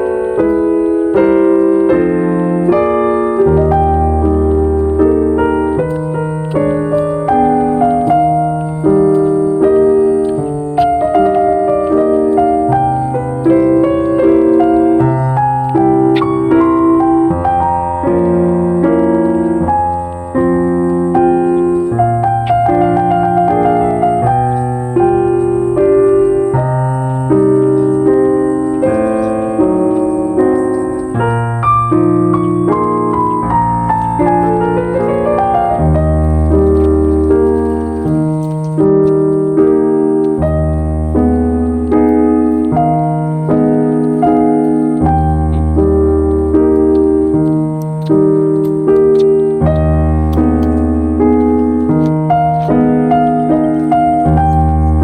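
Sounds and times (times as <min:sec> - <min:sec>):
gentle piano piece: 0:00.0 - 0:55.0.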